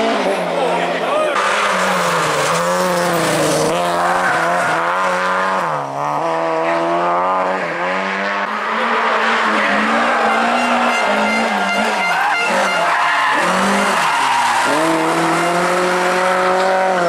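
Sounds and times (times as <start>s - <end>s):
rally car engine revving hard: 0.0s - 17.0s.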